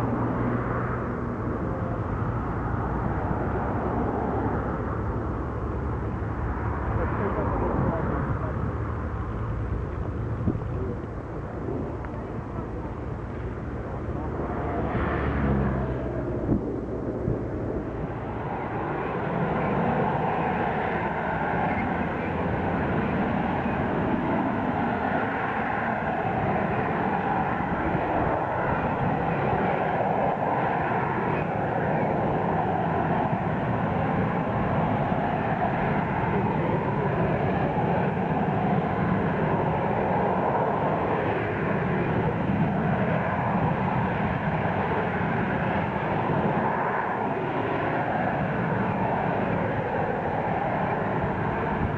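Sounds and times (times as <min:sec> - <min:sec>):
jet engine roar with whine: 0:00.0 - 0:51.9.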